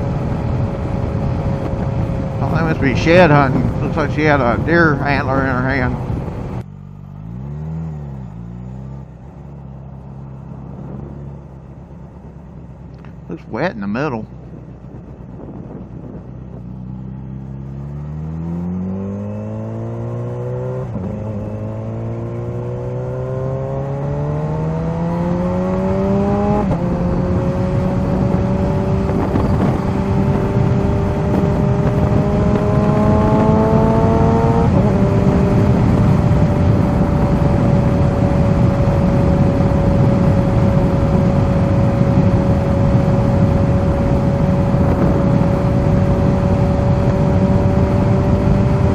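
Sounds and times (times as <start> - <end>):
wind rushing: 0.0 - 6.6, 14.2 - 48.9
motorcycle engine accelerating: 0.0 - 48.9.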